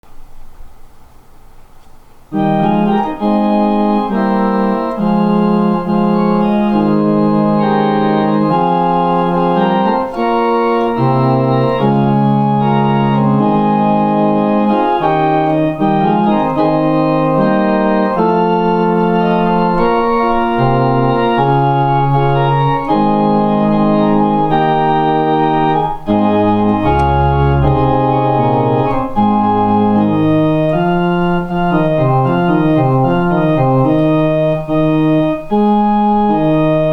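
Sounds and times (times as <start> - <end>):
organ playing chords: 2.3 - 36.9.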